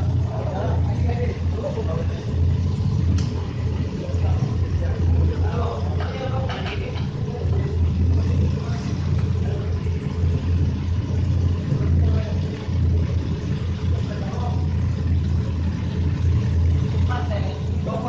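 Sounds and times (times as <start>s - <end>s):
faint voices: 0.0s - 18.0s
low engine rumble: 0.0s - 18.0s.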